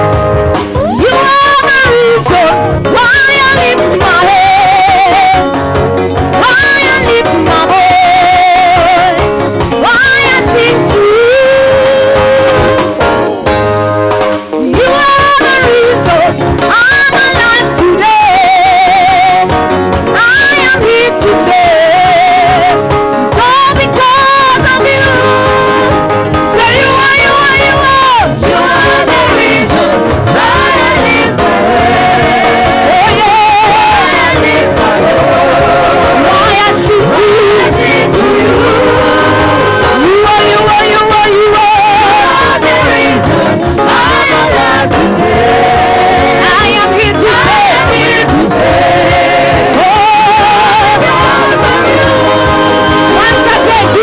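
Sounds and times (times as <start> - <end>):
person singing gospel song: 0.0 - 13.7, 14.6 - 54.0
instrumental accompaniment: 0.0 - 54.0.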